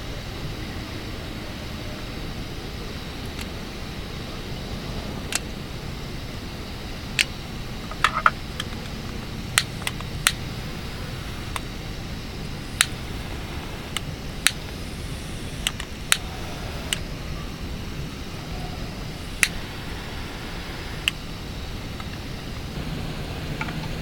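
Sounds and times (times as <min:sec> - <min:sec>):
steady low background noise: 0:00.0 - 0:24.0.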